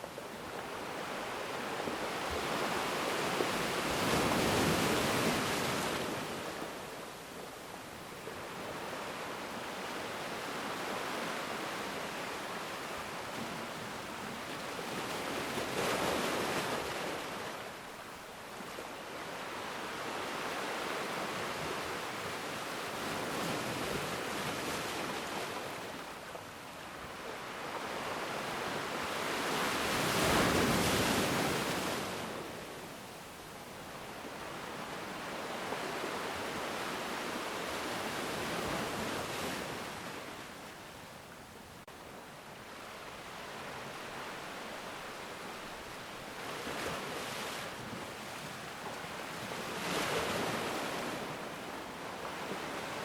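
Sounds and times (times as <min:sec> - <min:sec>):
ocean waves breaking on beach: 0:00.0 - 0:53.0.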